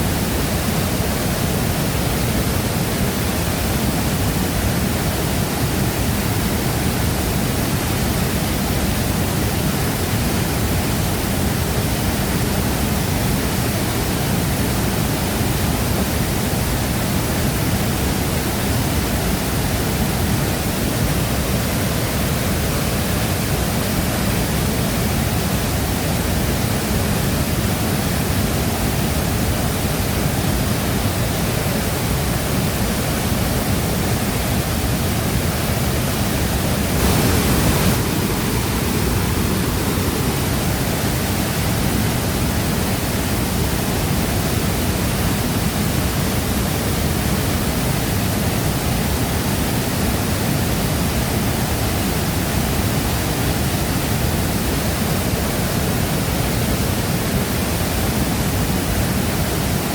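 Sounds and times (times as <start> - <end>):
large waterfall roaring: 0.0 - 59.9.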